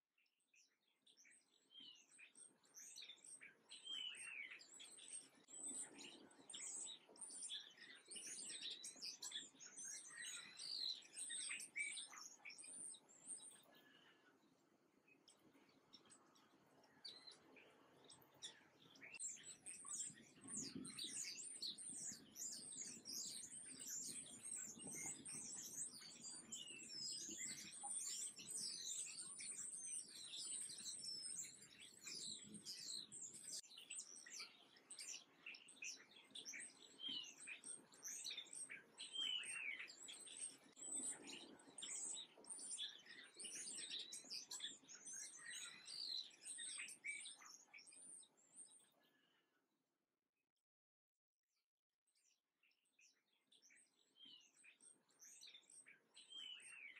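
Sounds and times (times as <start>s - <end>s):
small songbirds chirping: 0.0s - 49.7s, 52.1s - 56.9s.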